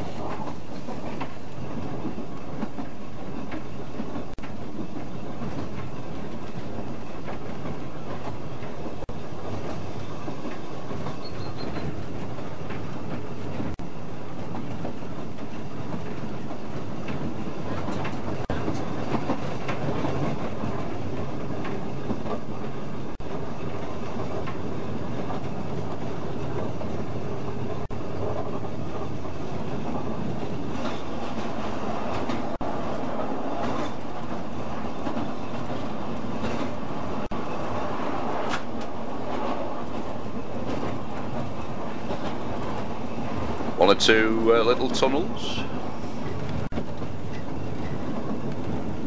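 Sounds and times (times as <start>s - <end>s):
train rumble on track: 0.0s - 49.0s
wheels clicking over rail joints: 0.0s - 49.0s.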